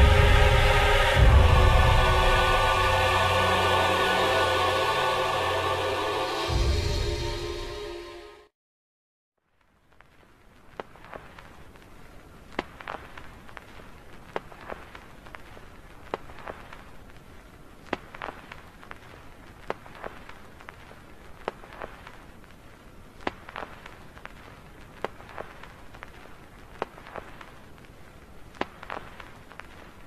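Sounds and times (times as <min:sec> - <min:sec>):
faint hiss: 0:00.0 - 0:08.4, 0:09.5 - 0:30.0.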